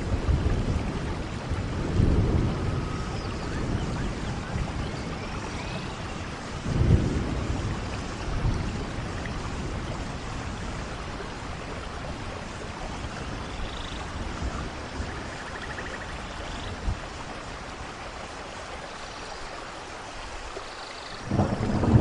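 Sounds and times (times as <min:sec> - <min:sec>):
low rumble of thunder: 0:00.0 - 0:18.3, 0:21.2 - 0:22.0
steady rain: 0:00.0 - 0:22.0.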